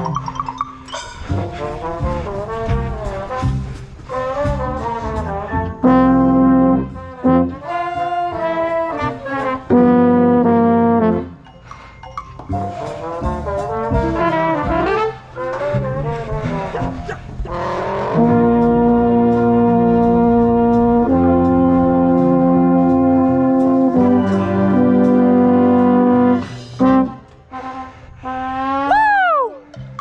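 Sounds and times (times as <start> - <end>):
marching band brass playing: 1.3 - 11.5, 12.6 - 29.0.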